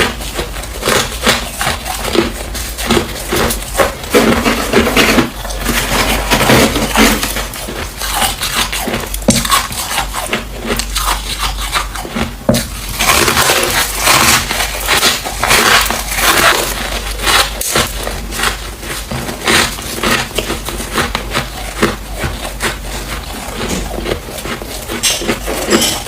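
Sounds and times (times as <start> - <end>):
frost being chewed crunching: 0.0 - 26.0.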